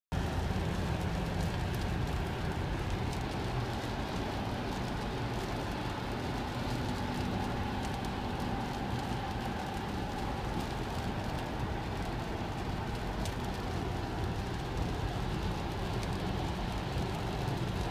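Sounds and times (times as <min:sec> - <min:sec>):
rain pattering on a windshield: 0:00.1 - 0:17.9
road and tyre noise in a car: 0:00.1 - 0:17.9.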